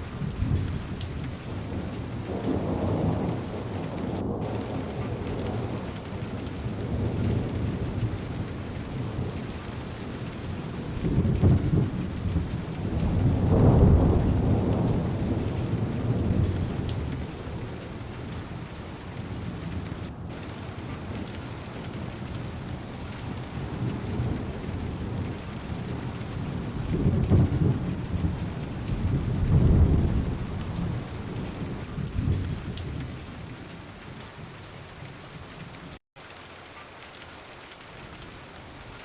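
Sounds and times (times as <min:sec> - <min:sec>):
thunder rumbling: 0:00.0 - 0:36.0
heavy rain on car window: 0:00.0 - 0:39.0.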